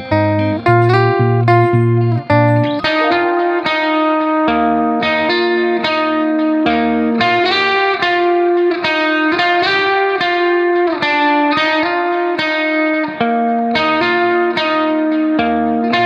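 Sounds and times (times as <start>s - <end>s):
guitar plucking chords: 0.0s - 16.0s.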